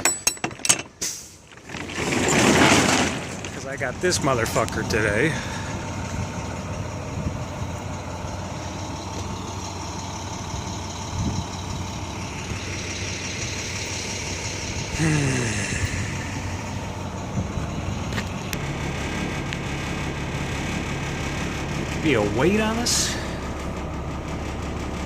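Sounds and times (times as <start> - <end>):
diesel truck engine idling: 3.1 - 25.0.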